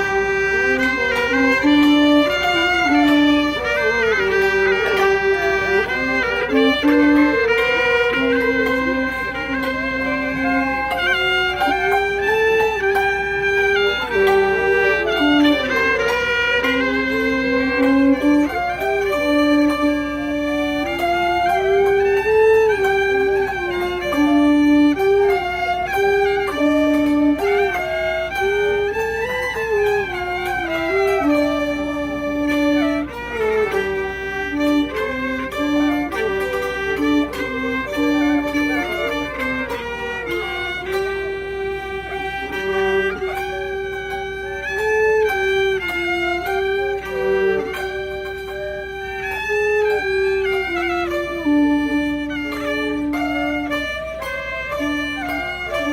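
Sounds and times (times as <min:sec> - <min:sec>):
two-string fiddle slow melody: 0:00.0 - 0:55.9.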